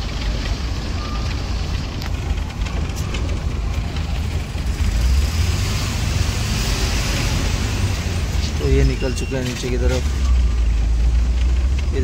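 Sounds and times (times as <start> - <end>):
bus rumbling over rough track: 0.0 - 12.0.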